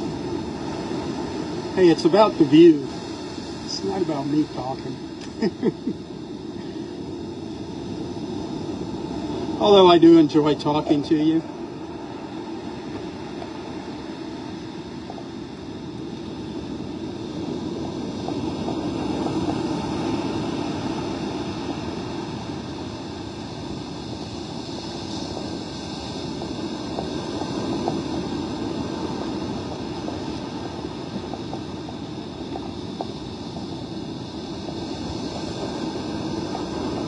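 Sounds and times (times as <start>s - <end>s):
muffled surf and wind rumble: 0.0s - 37.0s.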